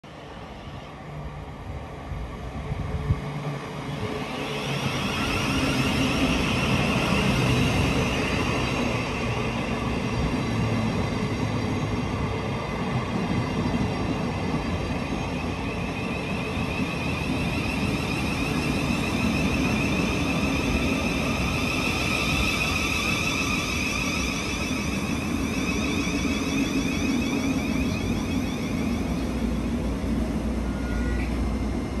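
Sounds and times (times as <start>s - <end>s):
train wheels rumbling on rails: 1.4s - 32.0s.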